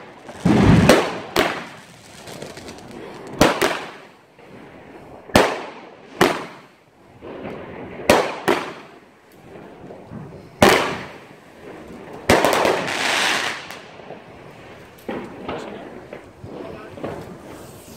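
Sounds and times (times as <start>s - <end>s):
fireworks bangs: 0.0s - 17.9s
fireworks crackling spray: 0.0s - 17.9s.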